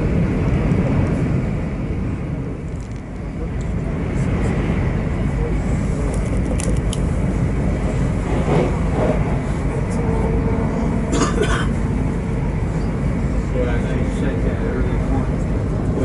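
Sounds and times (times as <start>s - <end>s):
train rumbling from inside carriage: 0.0s - 16.0s.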